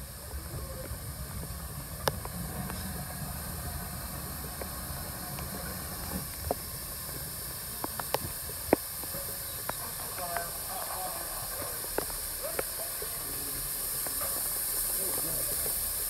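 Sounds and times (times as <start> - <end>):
heavy rain hissing: 0.0 - 16.0
locomotive rumbling: 0.0 - 16.0.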